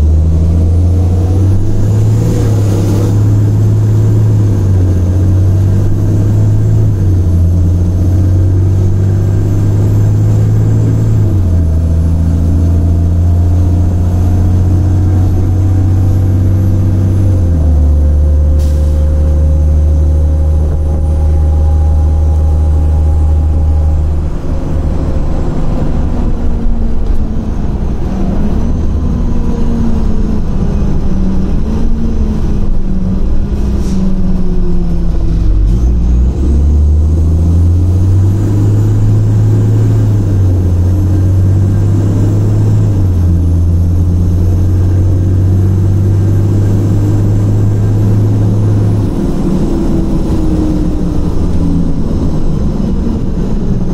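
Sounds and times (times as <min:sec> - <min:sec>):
bus diesel engine droning: 0:00.0 - 0:53.9.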